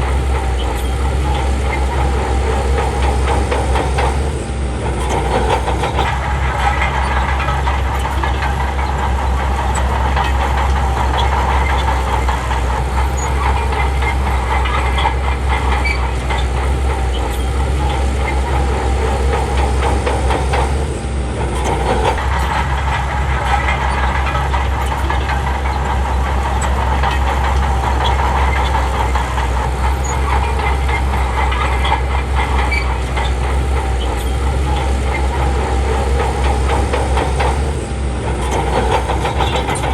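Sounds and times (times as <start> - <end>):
bulldozer diesel engine running: 0.0 - 39.9
steel tracks clattering: 0.0 - 39.9.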